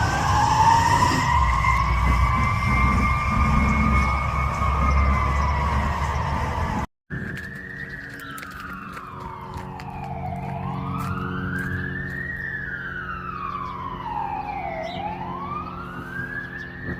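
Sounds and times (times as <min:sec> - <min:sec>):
engine running: 0:00.0 - 0:16.9
fire siren wailing: 0:00.0 - 0:16.9.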